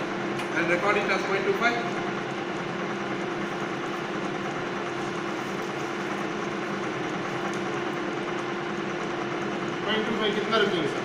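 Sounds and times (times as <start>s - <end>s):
lathe humming: 0.0s - 11.0s.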